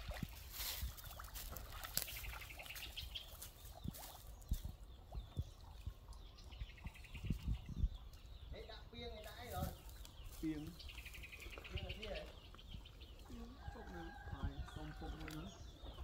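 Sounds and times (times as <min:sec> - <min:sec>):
water sloshing and splashing: 0:00.0 - 0:08.4, 0:09.3 - 0:16.0.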